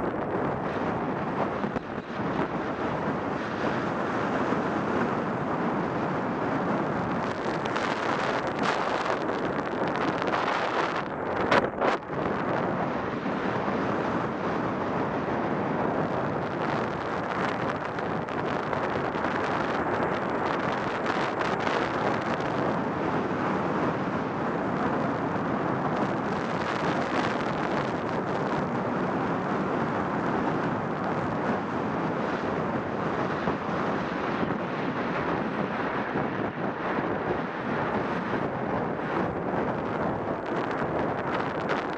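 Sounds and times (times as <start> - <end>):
rushing wind on microphone: 0.0 - 41.9.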